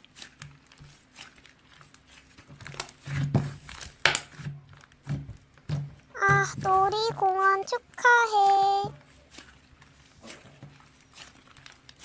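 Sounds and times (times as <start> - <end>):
slime squished by hand crackling: 0.0 - 12.0.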